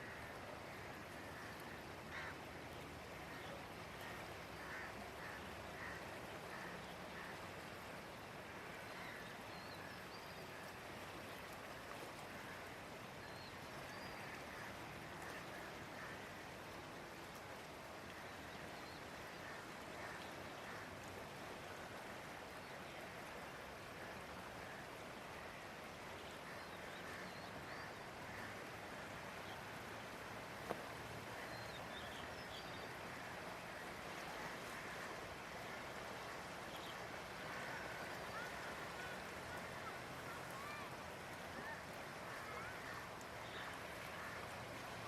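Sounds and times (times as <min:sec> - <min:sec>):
flooded river rushing: 0:00.0 - 0:45.0.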